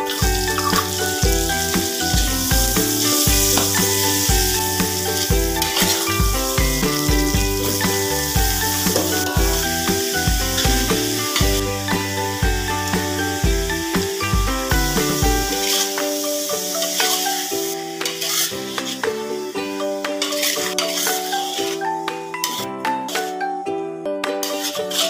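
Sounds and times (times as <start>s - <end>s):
food sizzling in hot oil: 0.0s - 22.6s, 24.4s - 25.0s
background music with steady beat: 0.0s - 25.0s.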